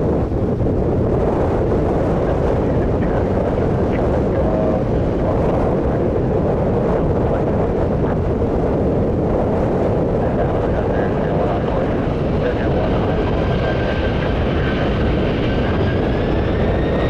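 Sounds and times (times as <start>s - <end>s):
jet engines rumbling: 0.0s - 17.0s
wind buffeting microphone: 0.0s - 17.0s.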